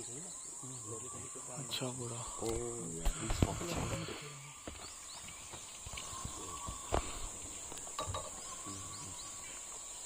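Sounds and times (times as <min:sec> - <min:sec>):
forest insects droning: 0:00.0 - 0:10.0.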